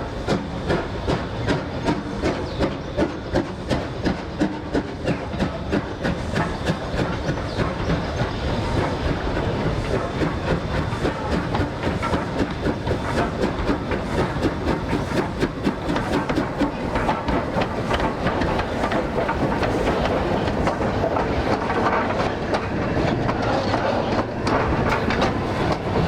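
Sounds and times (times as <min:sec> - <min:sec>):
train clickety-clack: 0:00.0 - 0:26.0.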